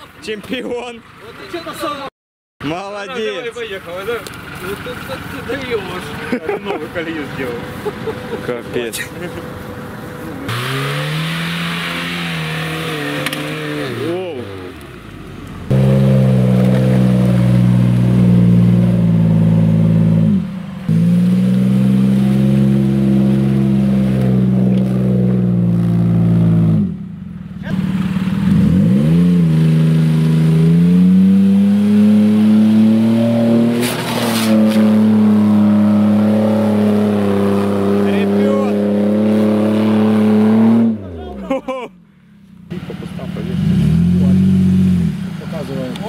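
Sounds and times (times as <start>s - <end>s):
suv engine revving under load: 7.2s - 41.3s, 42.4s - 46.0s.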